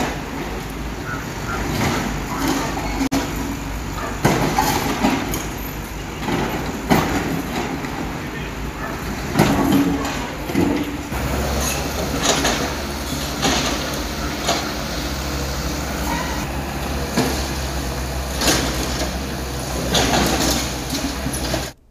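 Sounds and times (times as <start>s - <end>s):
excavator diesel engine running: 0.0s - 21.9s
concrete clanks and crashes: 1.6s - 16.4s, 17.1s - 21.8s.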